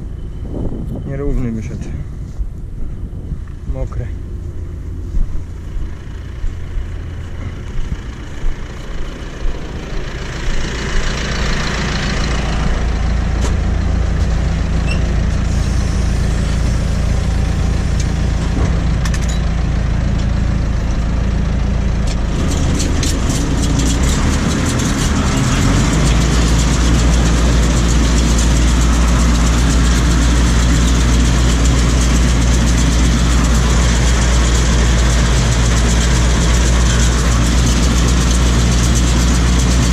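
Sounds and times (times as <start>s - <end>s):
engine knocks: 0.0s - 39.9s
tractor diesel engine running: 0.0s - 39.9s.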